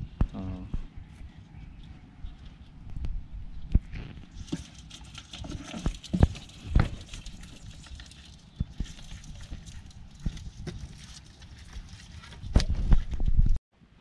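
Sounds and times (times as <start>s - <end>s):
soft rustle: 0.7s - 13.6s.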